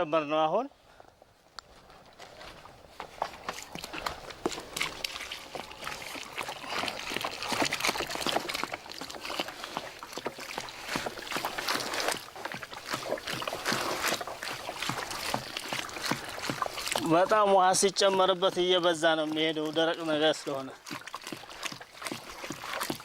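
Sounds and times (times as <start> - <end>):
wet mash sloshing and squelching: 1.6 - 23.0
water pouring onto feed: 3.1 - 23.0.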